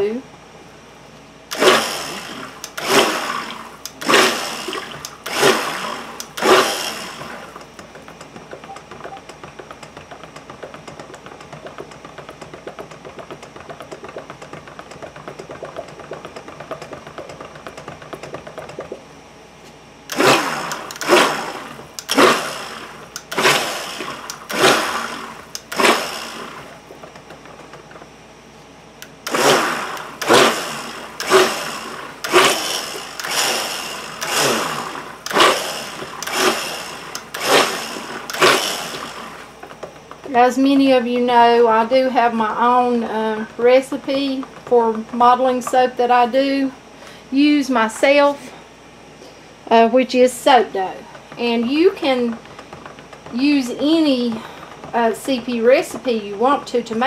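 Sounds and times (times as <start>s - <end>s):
steady churning: 1.4s - 19.2s, 20.1s - 57.0s
stick blender pulsing in bursts: 1.5s - 18.9s, 20.1s - 27.9s, 29.0s - 46.7s, 50.1s - 57.0s.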